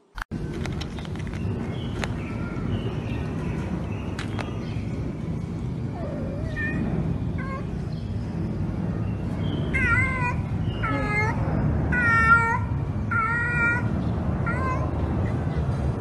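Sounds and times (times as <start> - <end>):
low background rumble: 0.3 - 16.0.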